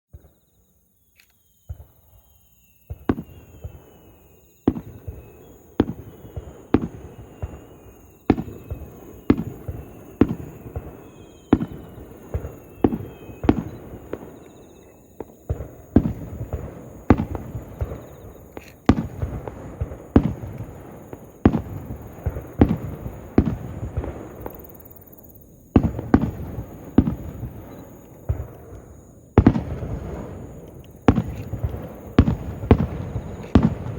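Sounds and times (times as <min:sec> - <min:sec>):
fireworks bangs with rumbling echo: 0:02.9 - 0:33.9.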